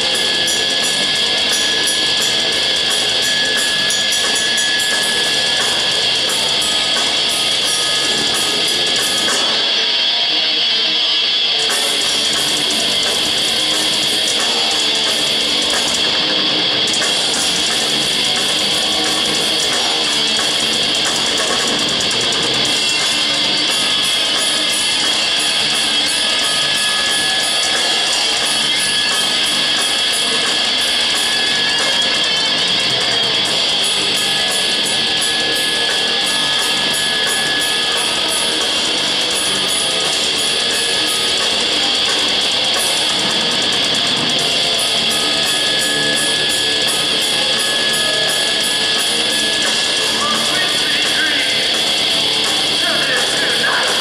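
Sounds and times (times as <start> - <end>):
electric guitars: 0.0 - 54.0
fast driving drums: 0.0 - 54.0.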